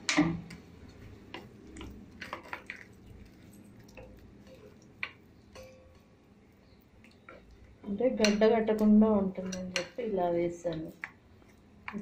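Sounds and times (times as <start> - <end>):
spoon stirring thick paste: 0.0 - 12.0.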